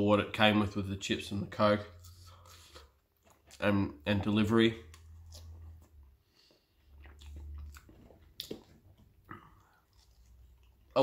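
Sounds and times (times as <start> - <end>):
person chewing chips: 1.9 - 11.0.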